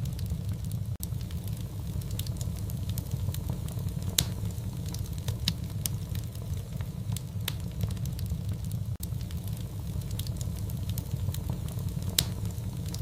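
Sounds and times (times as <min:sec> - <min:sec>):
low rumble of burning fire: 0:00.0 - 0:13.0
wood fire pops and snaps: 0:00.0 - 0:13.0.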